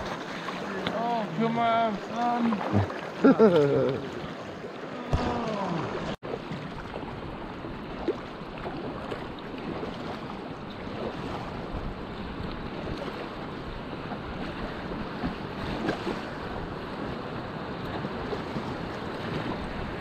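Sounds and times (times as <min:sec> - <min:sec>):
river water rushing and splashing: 0:00.0 - 0:20.0.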